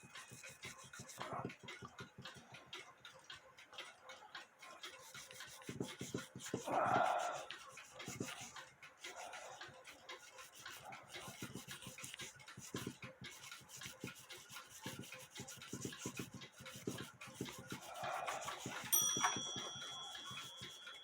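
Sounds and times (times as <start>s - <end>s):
hand scrubbing clock movement: 0.0s - 21.0s.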